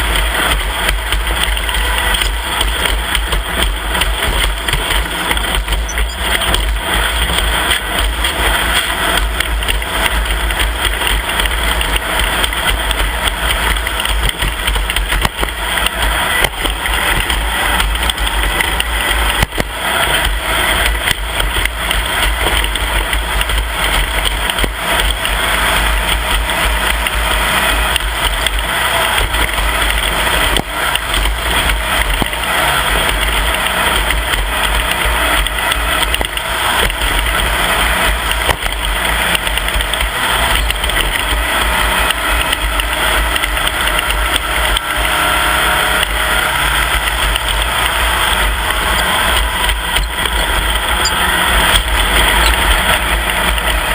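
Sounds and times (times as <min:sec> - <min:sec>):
heavy low rumble: 0:00.0 - 0:53.9
off-road vehicle engine running: 0:00.0 - 0:53.9.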